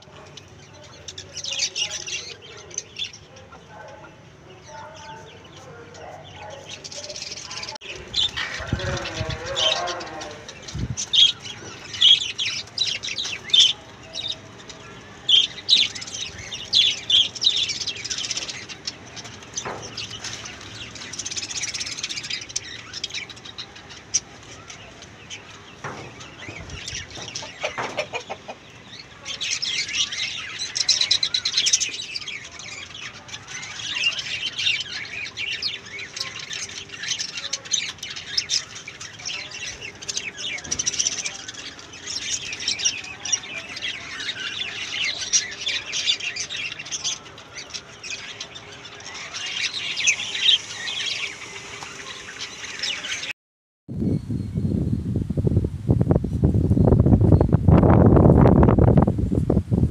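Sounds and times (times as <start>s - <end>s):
birds chirping and squawking: 0.0s - 53.3s.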